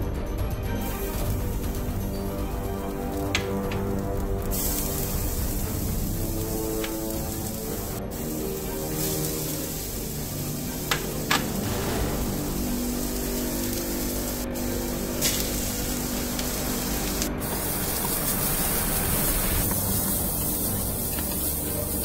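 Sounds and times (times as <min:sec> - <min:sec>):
vegetables sizzling in hot oil: 0:03.0 - 0:22.0.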